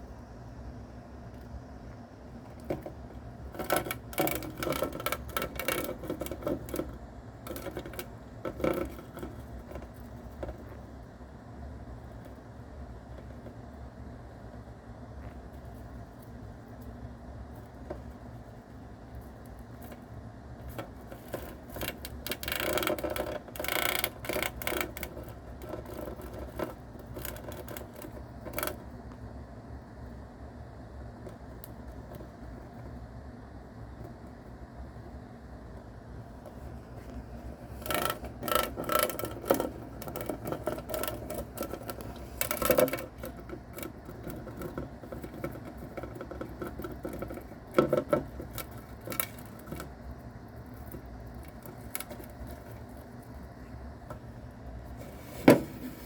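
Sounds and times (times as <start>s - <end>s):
steady low hum: 0.0s - 56.0s
mouse chewing insect shell: 1.3s - 29.3s, 30.9s - 55.3s.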